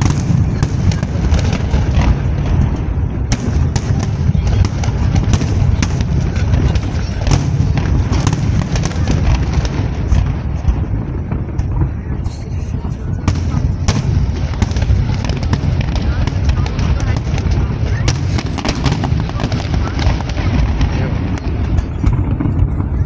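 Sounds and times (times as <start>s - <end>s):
fireworks bangs and crackles: 0.0s - 23.0s
fireworks rumble: 0.0s - 23.0s.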